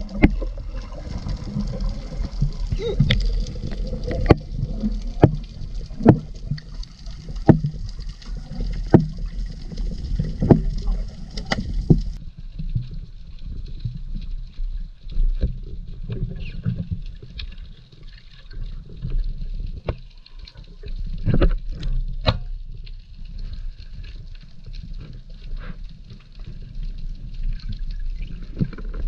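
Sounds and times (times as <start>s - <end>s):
underwater sloshing and bubbling: 0.0s - 29.0s.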